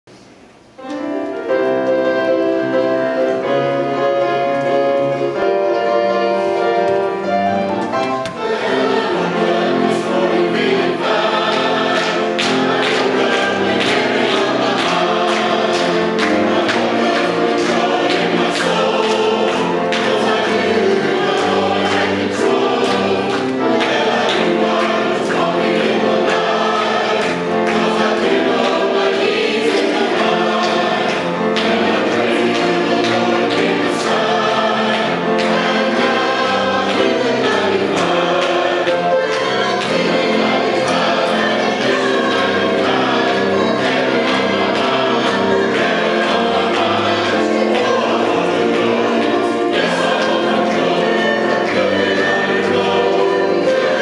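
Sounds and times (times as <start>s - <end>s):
choir singing gospel song: 2.6s - 54.0s.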